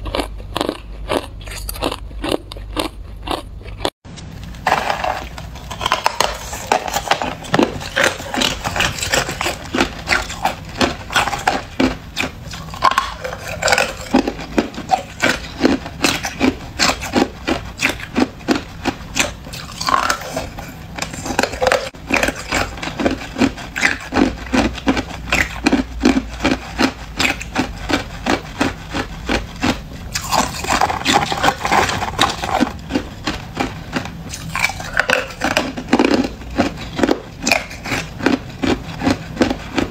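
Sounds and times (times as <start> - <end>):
chewing ice crunches: 0.0 - 4.0, 4.6 - 39.9.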